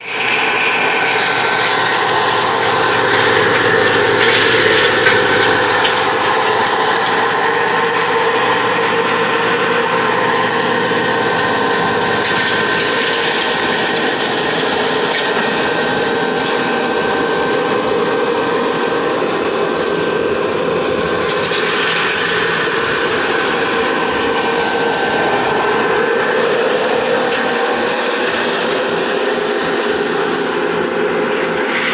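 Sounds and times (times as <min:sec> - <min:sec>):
steady whine: 0:00.0 - 0:31.9.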